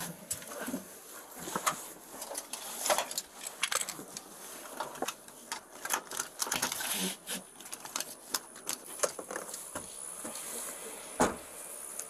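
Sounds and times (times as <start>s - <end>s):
rustling: 0.0s - 11.2s.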